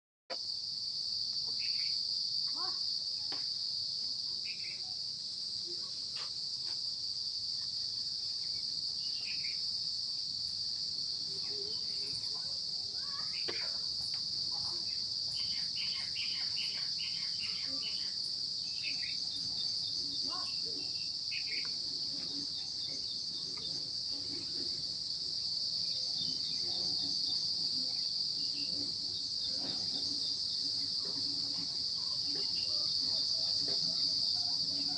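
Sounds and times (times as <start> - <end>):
high-pitched insect chorus: 0.3 - 34.9.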